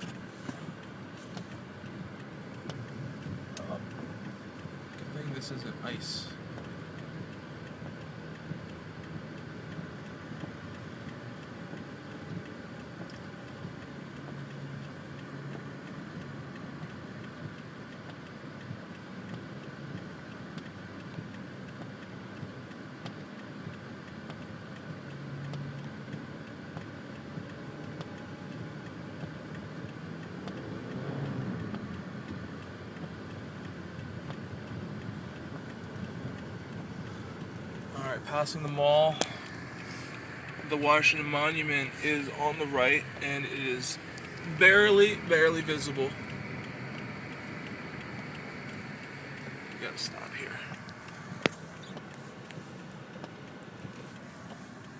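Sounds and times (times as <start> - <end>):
car engine from inside cabin: 0.0 - 54.9
road noise: 0.0 - 54.9.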